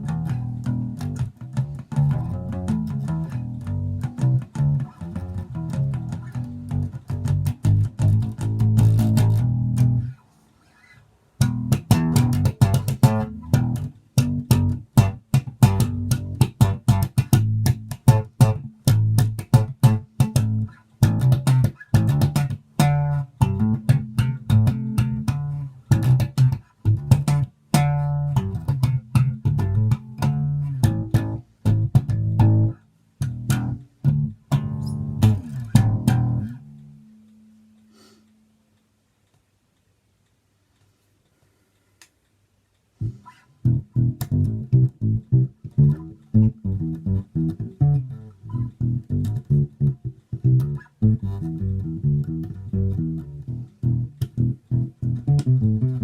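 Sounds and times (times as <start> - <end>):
electric bass plucked notes: 0.0 - 10.2, 11.4 - 37.5, 43.0 - 56.0.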